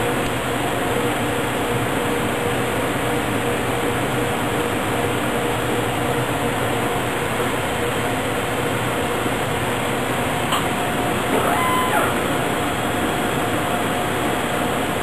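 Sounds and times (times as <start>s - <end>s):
fan and air-handling whoosh: 0.0s - 15.0s.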